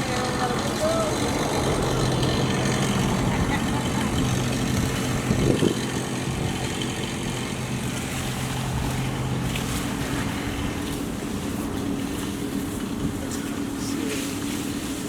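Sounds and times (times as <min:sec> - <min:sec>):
motor humming: 0:00.0 - 0:13.2.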